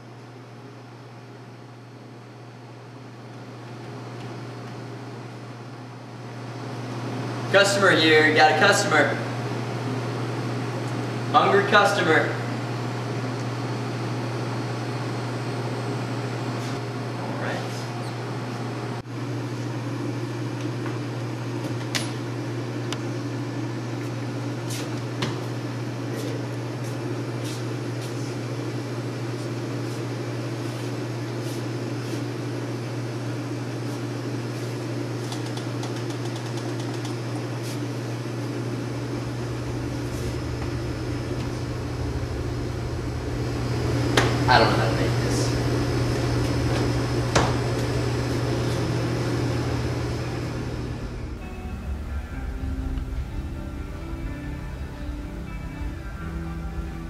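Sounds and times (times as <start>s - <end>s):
mechanical hum of appliances: 0.0s - 57.0s.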